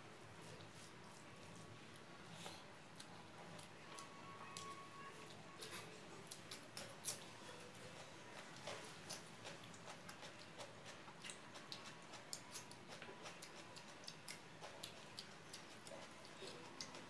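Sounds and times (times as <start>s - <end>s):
chewing food: 0.3s - 17.0s
fingers mixing rice on plate: 0.4s - 17.0s.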